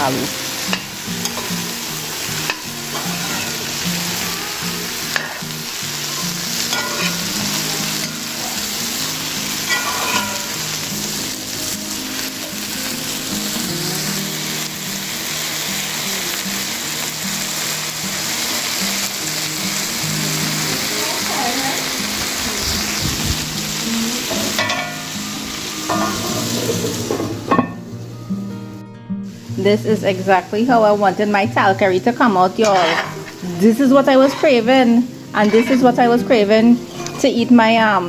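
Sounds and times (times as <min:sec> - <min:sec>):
food sizzling in a pot: 0:00.0 - 0:38.0.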